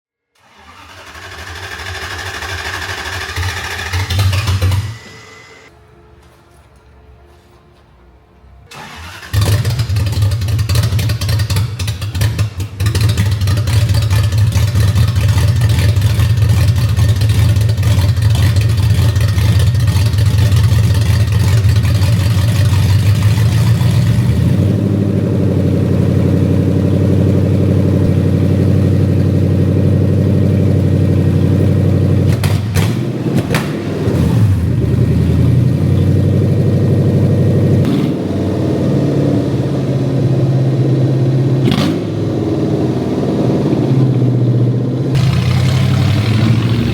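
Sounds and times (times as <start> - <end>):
car engine starting and revving: 0.4 - 5.5, 8.7 - 46.9.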